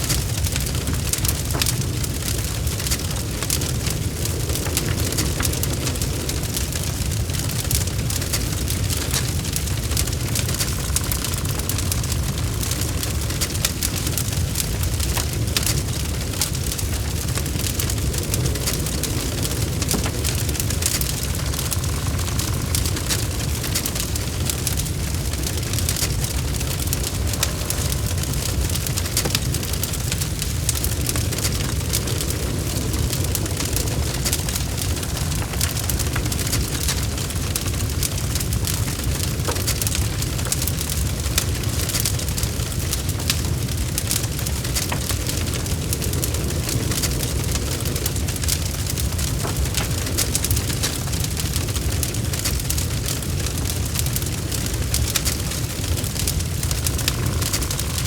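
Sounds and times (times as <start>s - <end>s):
fire rumbling: 0.0s - 58.0s
wood crackling and popping: 0.0s - 58.0s.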